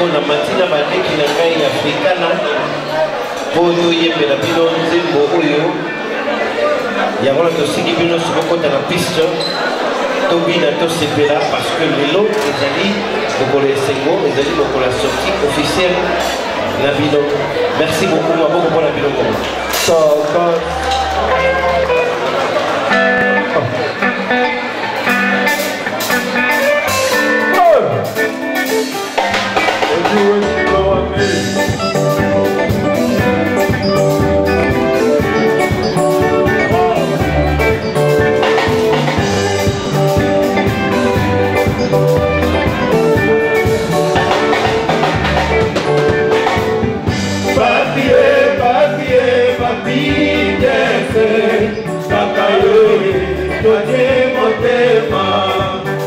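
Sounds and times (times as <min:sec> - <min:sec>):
live band music with singers: 0:00.0 - 0:56.0.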